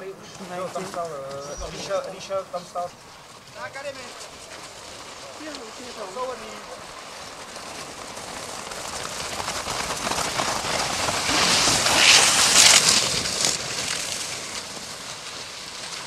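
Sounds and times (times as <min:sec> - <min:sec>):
sled runners and skis hissing on snow: 0:00.0 - 0:16.0.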